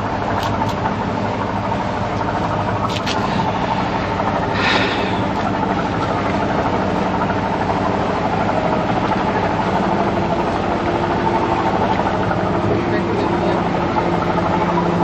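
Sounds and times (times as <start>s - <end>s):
boat engine humming: 0.0s - 15.0s
faint water rushing: 0.0s - 15.0s.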